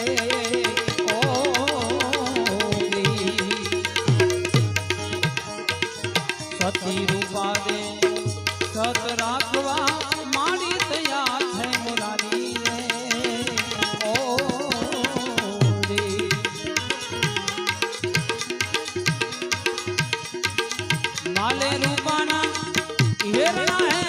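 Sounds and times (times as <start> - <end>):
tabla beat: 0.0 - 24.0.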